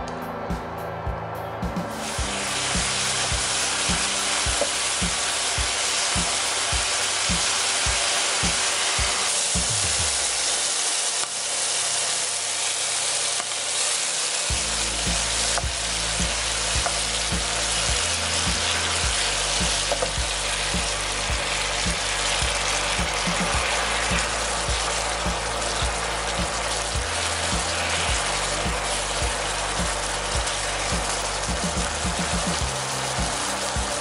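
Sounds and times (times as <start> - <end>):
shrimp sizzling in oil: 2.0 - 34.0.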